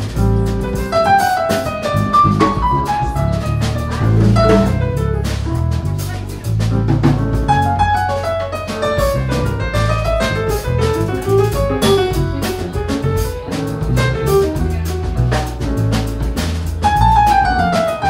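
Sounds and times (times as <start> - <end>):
bass line: 0.0 - 18.0
drum kit cymbals: 0.0 - 18.0
piano melody: 0.0 - 18.0.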